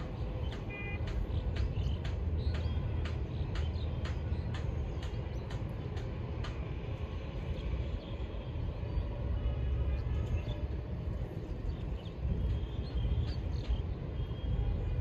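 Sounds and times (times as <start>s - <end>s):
low rumble of distant engines: 0.0s - 15.0s.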